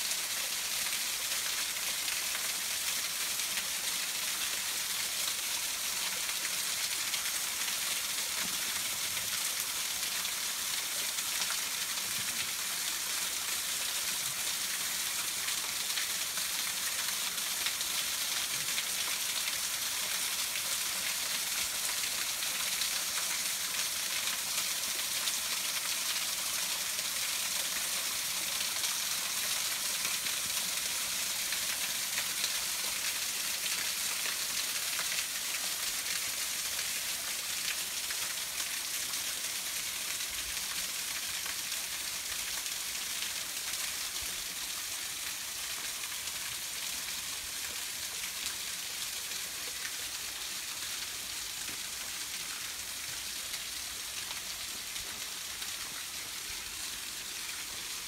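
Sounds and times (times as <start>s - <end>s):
running water hiss: 0.0s - 58.0s.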